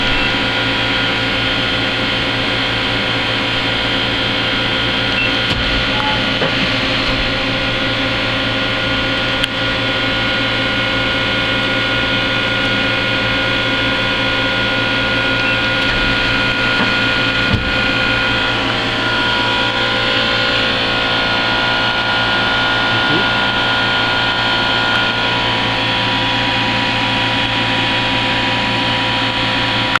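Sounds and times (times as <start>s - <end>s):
lathe humming and whining: 0.0s - 30.0s.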